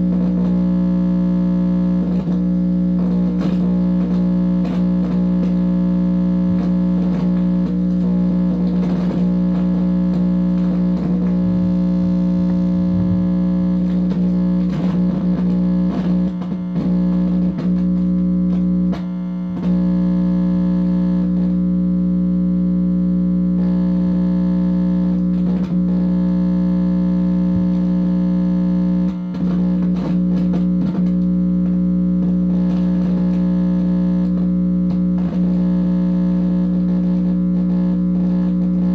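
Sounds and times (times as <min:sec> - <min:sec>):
loud electronic buzz: 0:00.0 - 0:38.9.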